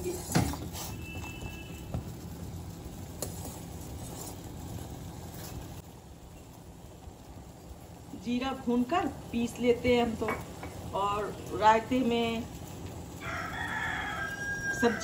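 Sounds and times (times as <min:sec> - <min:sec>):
water boiling hard in a pan: 0:00.0 - 0:15.0.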